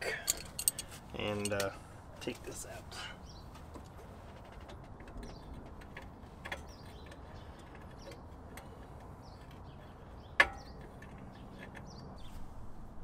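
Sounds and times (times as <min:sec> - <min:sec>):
birds chirping: 0:00.0 - 0:12.5.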